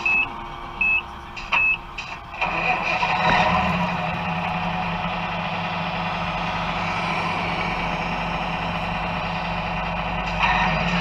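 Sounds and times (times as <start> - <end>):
diesel engine running sound: 0.0 - 11.0.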